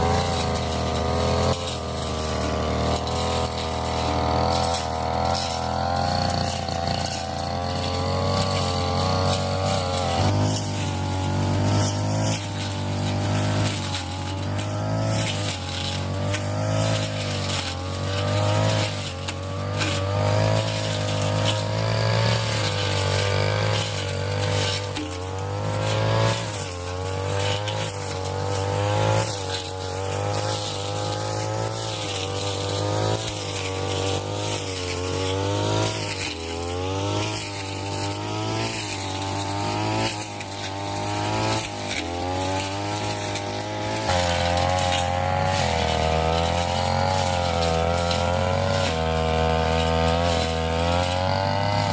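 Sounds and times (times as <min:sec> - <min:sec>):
brush cutter engine running hard: 0:00.0 - 0:51.9.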